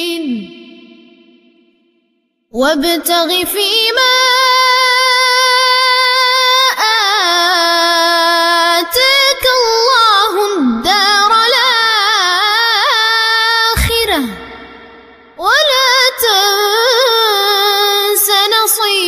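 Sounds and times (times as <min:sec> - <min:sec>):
boy chanting with echo: 0:00.0 - 0:01.7, 0:02.5 - 0:19.0.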